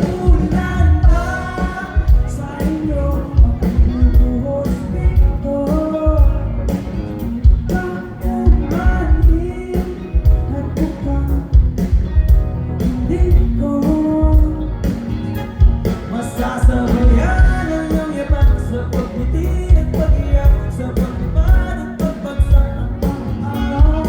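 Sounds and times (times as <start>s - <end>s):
band playing pop-rock song: 0.0s - 24.0s
person singing: 0.0s - 24.0s.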